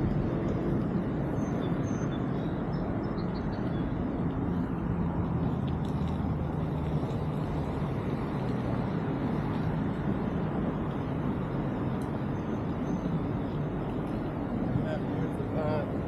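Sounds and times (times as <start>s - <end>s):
bike tyre noise: 0.0s - 16.0s
wind rumble: 0.0s - 16.0s.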